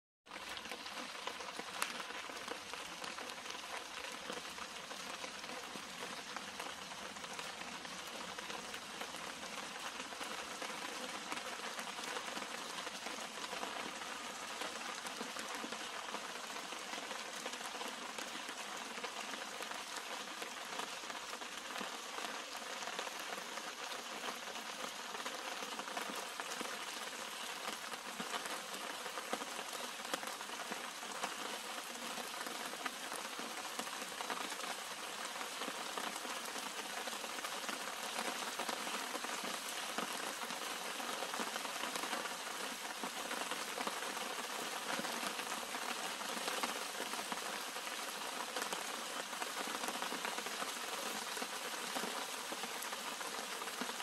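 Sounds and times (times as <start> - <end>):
rain falling on leaves: 0.3 - 54.0.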